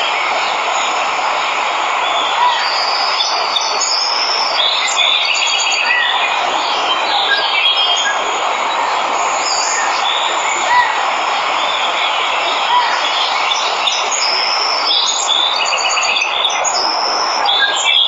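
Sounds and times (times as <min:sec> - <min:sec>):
waterfall rushing: 0:00.0 - 0:18.0
birds chirping and trilling: 0:02.0 - 0:11.0, 0:11.6 - 0:18.0.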